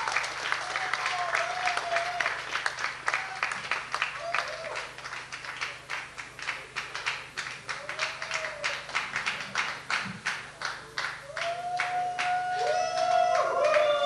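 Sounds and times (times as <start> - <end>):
audience clapping in rhythm: 0.0 - 14.0.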